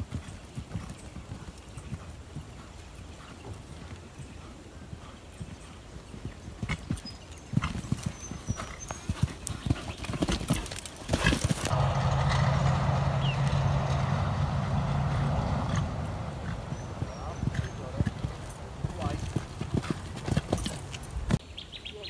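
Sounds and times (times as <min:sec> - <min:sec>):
horse hoofbeats on sand: 0:00.0 - 0:14.1, 0:15.5 - 0:21.4.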